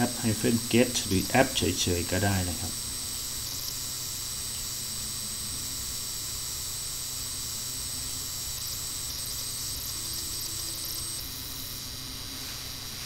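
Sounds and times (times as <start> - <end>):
low hum: 0.0 - 13.0
steady hiss: 0.0 - 13.0.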